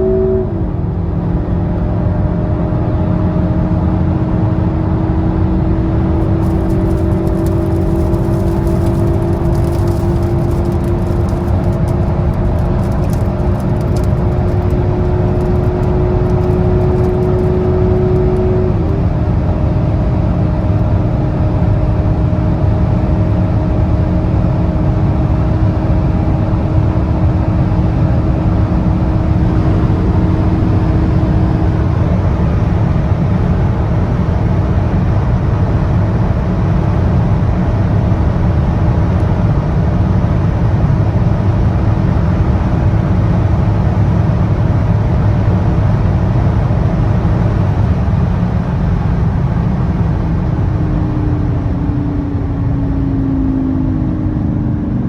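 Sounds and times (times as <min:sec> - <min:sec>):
car engine pulling hard: 0:00.0 - 0:55.0
wind and road noise: 0:00.0 - 0:55.0.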